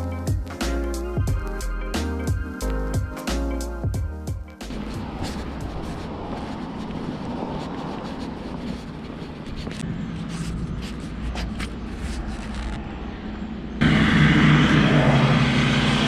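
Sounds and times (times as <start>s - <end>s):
car engine and road noise: 0.0s - 16.0s
steady engine hum: 0.0s - 16.0s.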